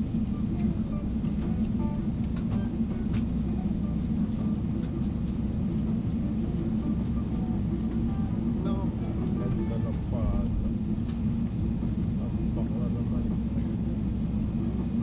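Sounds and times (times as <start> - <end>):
airplane cabin low rumble: 0.0 - 15.0.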